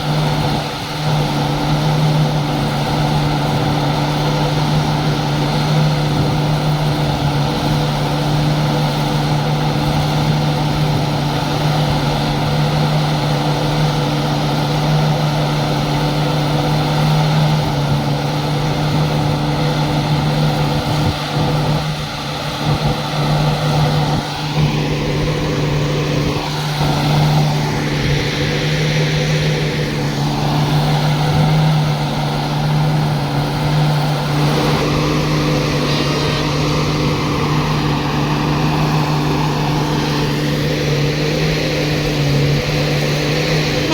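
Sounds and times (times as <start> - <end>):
diesel generator droning: 0.0 - 43.9.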